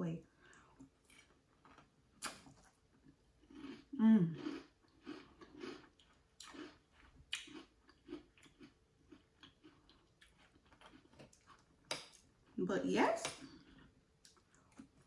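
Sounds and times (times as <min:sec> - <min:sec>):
chewing crunchy cereal: 0:00.4 - 0:15.0.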